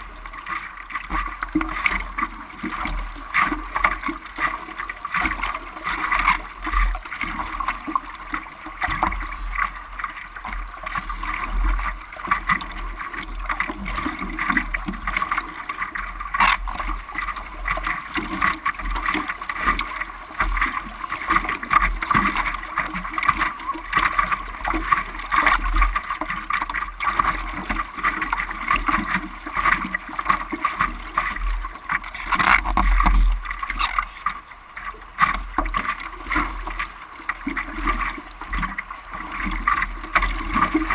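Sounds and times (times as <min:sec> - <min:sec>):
sea water: 0:00.0 - 0:40.9.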